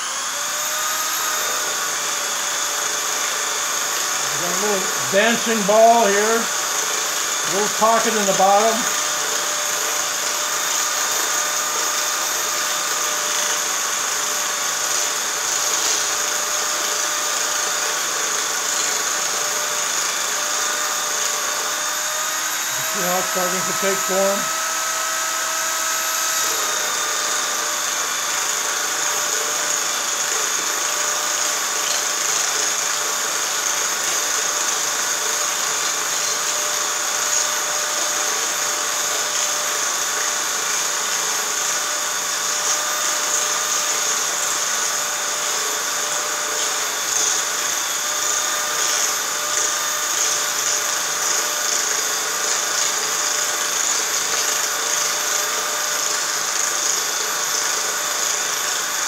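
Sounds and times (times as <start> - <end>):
electric motor high whine: 0.0 - 59.0.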